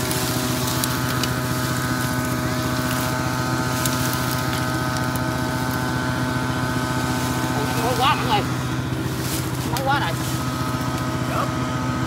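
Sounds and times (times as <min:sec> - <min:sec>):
dry branches snapping and rustling: 0:00.0 - 0:11.5
small engine running: 0:00.0 - 0:12.0.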